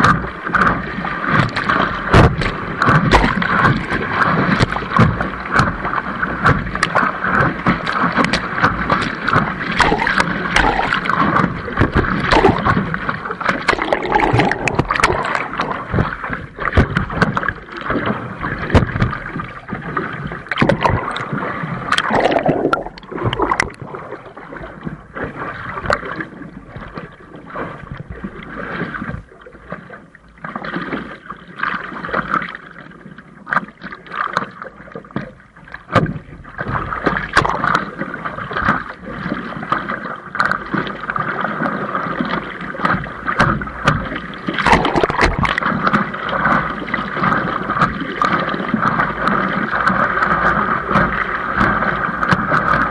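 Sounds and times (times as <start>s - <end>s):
windsurf board rushing through water: 0.0s - 52.9s.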